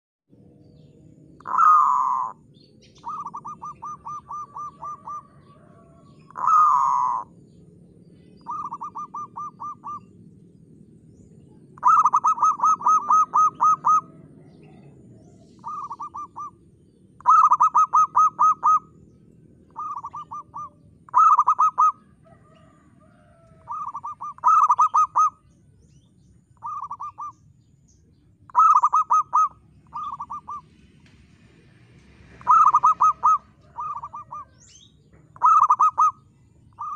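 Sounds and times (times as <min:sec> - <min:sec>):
dove cooing: 0:01.4 - 0:07.6, 0:08.3 - 0:10.2, 0:11.0 - 0:25.5, 0:26.6 - 0:27.5, 0:28.5 - 0:31.0, 0:32.3 - 0:36.9.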